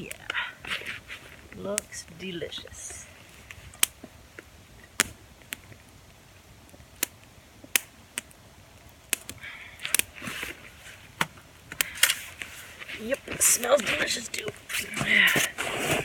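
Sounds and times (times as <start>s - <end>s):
soft rustle: 0.0s - 6.9s, 9.3s - 16.0s
campfire crackling and popping: 0.0s - 16.0s.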